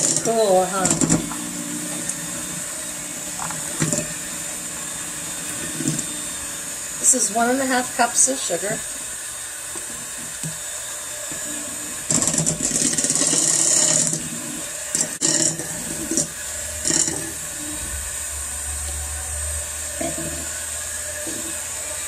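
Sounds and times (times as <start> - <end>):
electric hand mixer whirring: 0.0 - 22.0.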